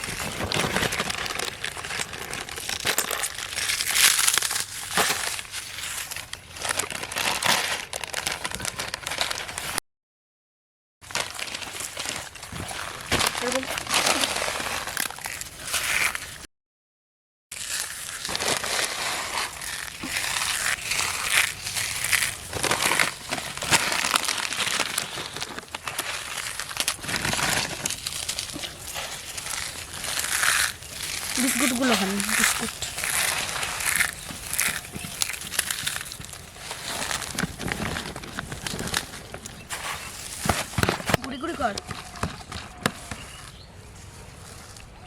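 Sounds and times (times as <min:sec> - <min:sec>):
plastic packet crinkling: 0:00.0 - 0:09.8, 0:11.0 - 0:16.5, 0:17.5 - 0:43.6.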